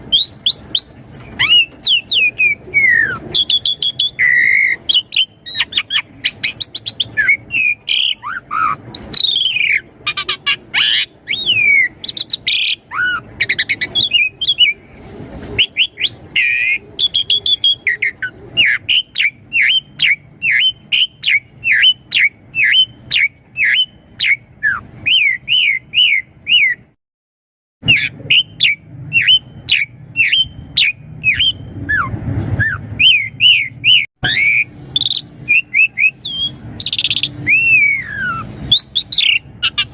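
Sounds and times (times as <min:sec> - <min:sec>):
starling singing whistles: 0:00.0 - 0:26.9, 0:27.8 - 0:39.9.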